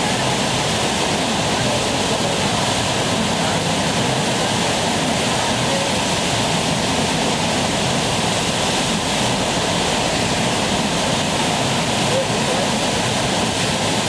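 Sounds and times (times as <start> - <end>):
whitewater rushing: 0.0 - 14.0.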